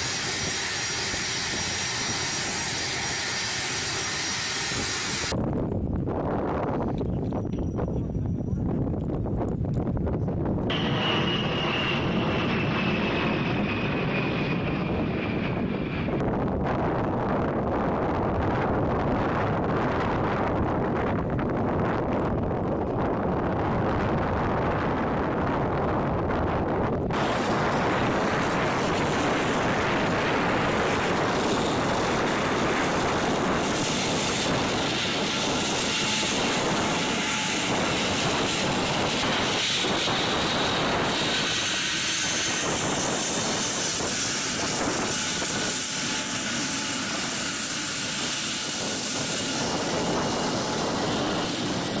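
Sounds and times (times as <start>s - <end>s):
jet engines taxiing: 0.0s - 52.0s.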